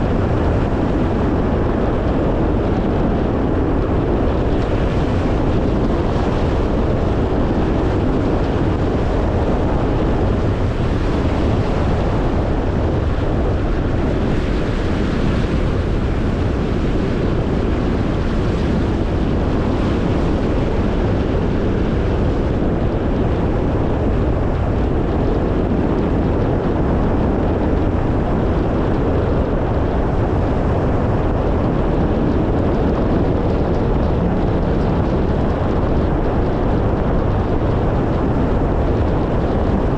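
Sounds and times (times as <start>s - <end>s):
wind rushing: 0.0s - 39.9s.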